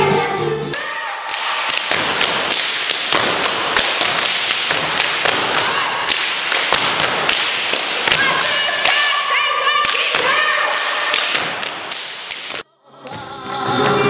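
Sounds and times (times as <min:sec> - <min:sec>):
stomping and clapping: 0:00.7 - 0:12.6.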